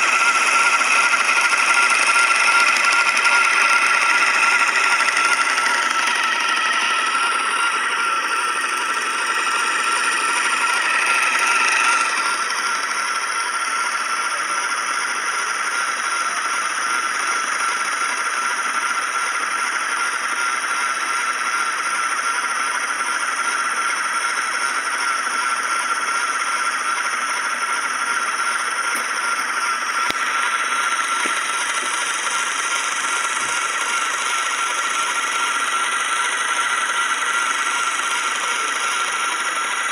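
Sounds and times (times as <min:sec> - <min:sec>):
spinning wheel motor whine: 0:00.0 - 0:39.9.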